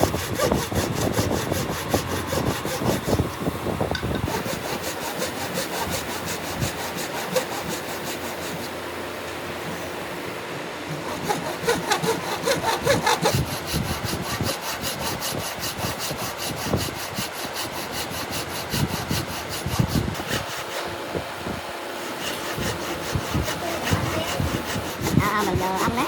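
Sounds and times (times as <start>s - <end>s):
hand saw cutting wood: 0.0s - 8.9s, 9.6s - 10.0s, 10.9s - 21.2s, 21.8s - 26.0s.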